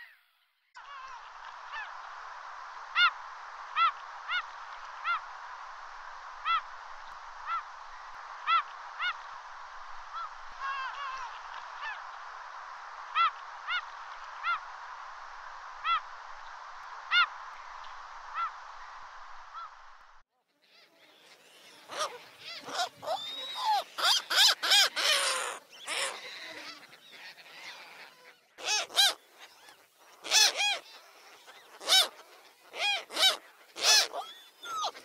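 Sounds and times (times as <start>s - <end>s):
gulls calling: 0.8s - 20.0s, 21.2s - 35.0s
steady background hiss: 0.8s - 20.2s, 20.9s - 35.0s.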